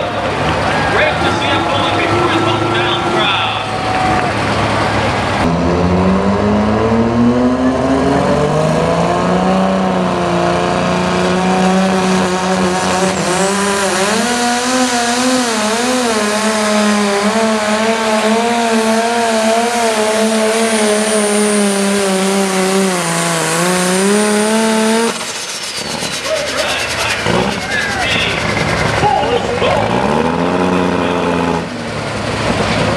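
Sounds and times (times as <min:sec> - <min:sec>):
tractor engine at full power: 0:00.0 - 0:32.9.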